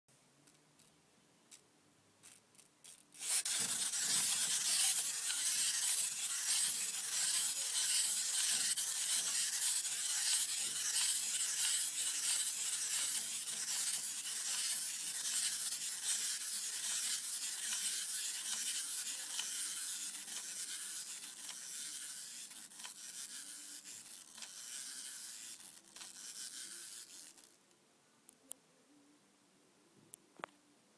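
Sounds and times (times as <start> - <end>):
plastic spinning toy whirring: 2.2 - 27.6.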